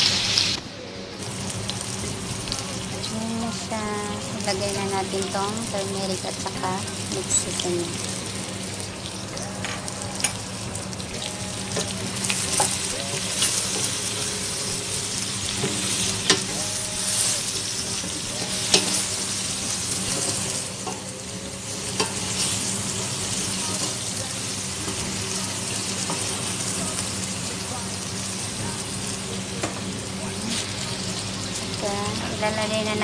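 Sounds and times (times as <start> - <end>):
food sizzling in oil: 0.0 - 0.6, 1.2 - 33.0.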